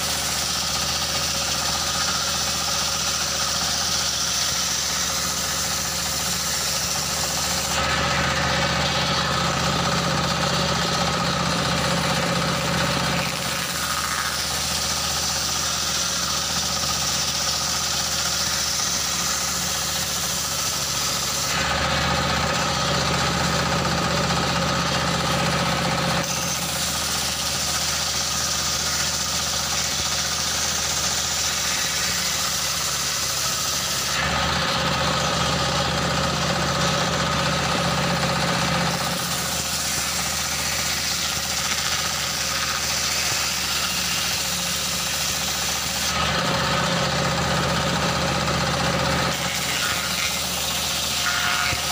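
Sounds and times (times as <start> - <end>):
circular saw cutting wood: 0.0 - 51.9
diesel engine running under load: 0.0 - 51.9.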